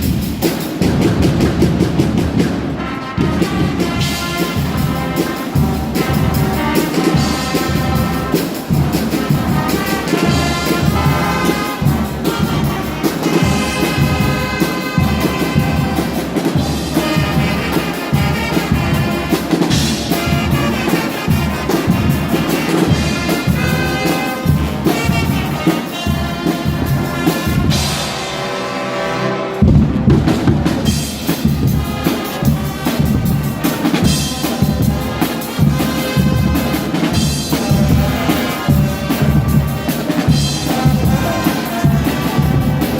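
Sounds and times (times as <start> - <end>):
brass band: 0.0 - 42.9
pounding drum beat: 0.0 - 42.9.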